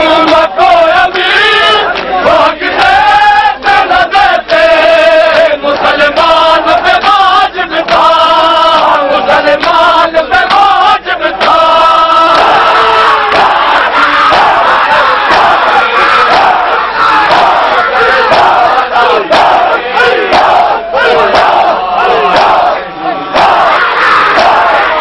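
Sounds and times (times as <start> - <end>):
men chanting a mourning lament: 0.0 - 25.0
packed crowd noise: 0.0 - 25.0.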